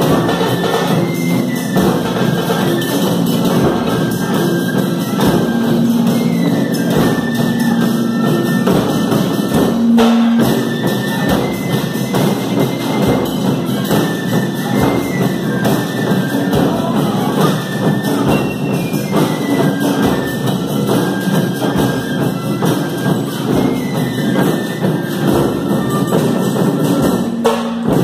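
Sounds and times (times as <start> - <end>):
taiko drums ensemble: 0.0 - 28.0.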